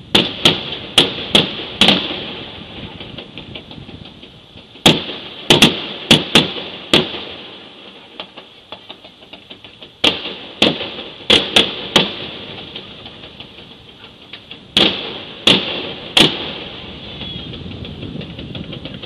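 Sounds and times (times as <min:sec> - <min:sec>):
firework pops and crackles: 0:00.0 - 0:19.0
fireworks bangs: 0:00.0 - 0:19.0.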